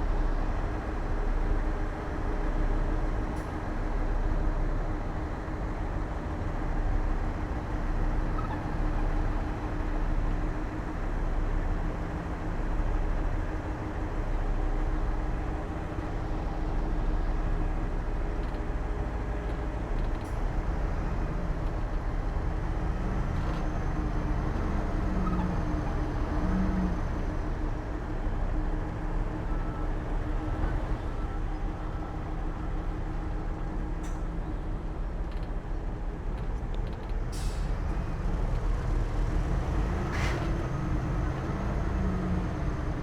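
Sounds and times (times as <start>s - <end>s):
diesel machinery engine rumble: 0.0s - 43.0s.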